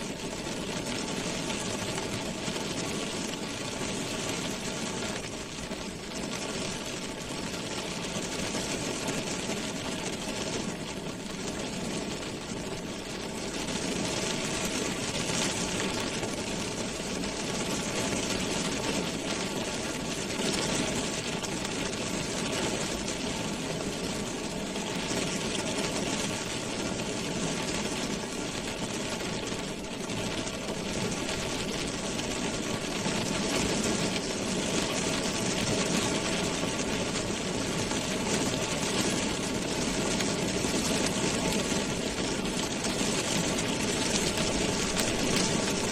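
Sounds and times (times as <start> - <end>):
rain drumming on car roof: 0.0 - 45.9.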